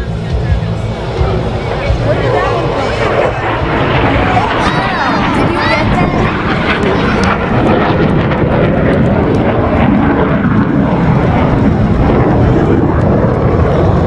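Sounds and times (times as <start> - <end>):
fighter jets roaring past: 0.0 - 14.0.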